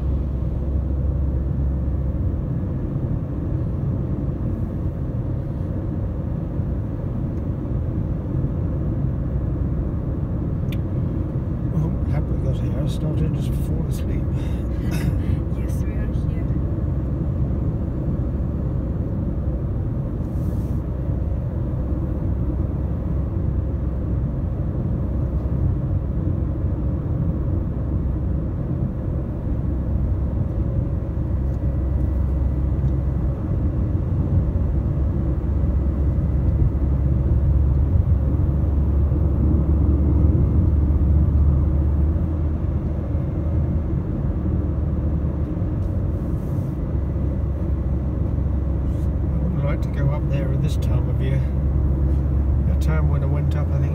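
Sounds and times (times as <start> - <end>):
car driving at highway speed: 0.0 - 53.9.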